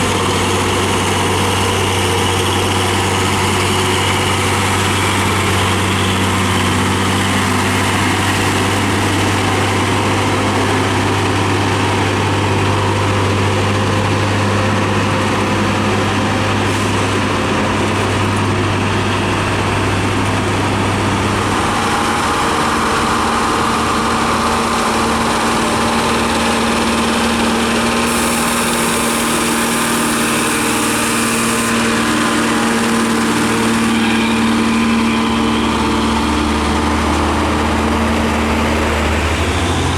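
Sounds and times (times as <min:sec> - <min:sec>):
diesel truck engines running: 0:00.0 - 0:39.9.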